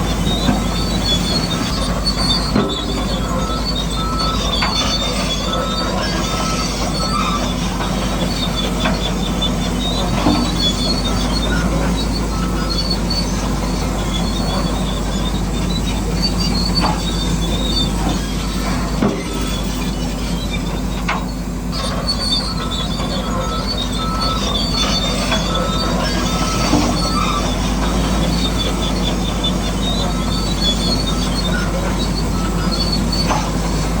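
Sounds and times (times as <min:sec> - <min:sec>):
electric motors whining: 0:00.0 - 0:34.0
high-pitched squeals: 0:00.0 - 0:34.0.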